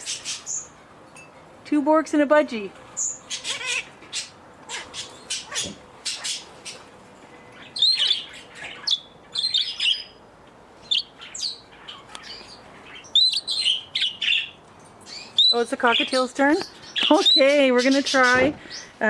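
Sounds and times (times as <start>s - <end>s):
parakeets chirping and squawking: 0.0s - 0.8s, 2.8s - 19.0s.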